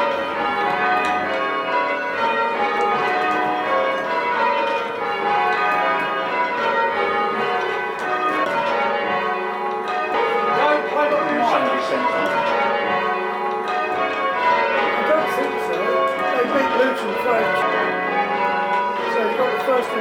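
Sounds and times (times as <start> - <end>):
church bells change ringing: 0.0 - 20.0.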